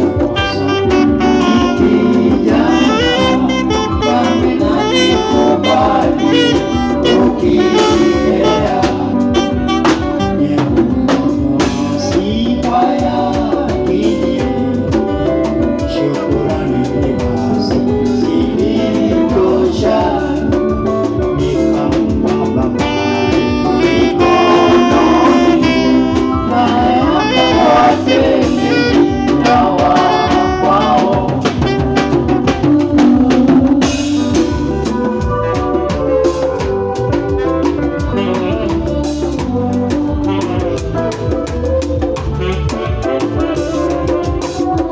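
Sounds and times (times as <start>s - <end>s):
drum kit: 0.0s - 44.9s
man singing: 0.0s - 44.9s
saxophone: 0.0s - 44.9s.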